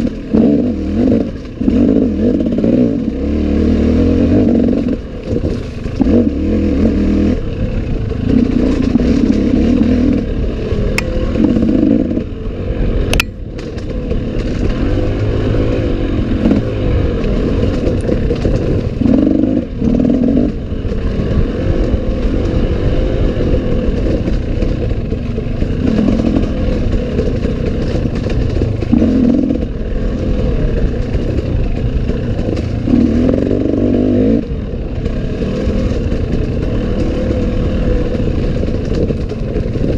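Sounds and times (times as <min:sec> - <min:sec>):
bike rattling over rough ground: 0:00.0 - 0:39.9
dirt bike engine revving: 0:00.0 - 0:39.9.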